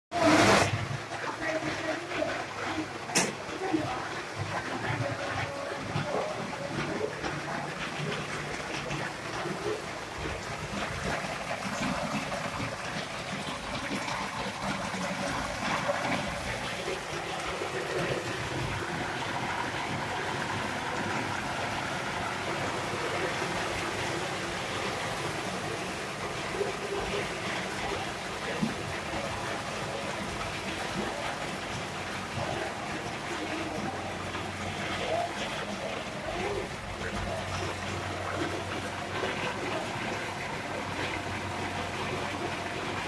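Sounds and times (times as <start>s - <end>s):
sorting machine running: 0.1s - 43.0s.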